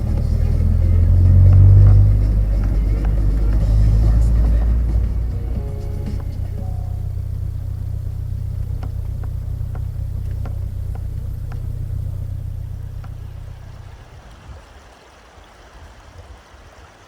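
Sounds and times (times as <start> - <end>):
faint clicks: 0.0 - 14.1
car engine rumbling: 0.0 - 14.4.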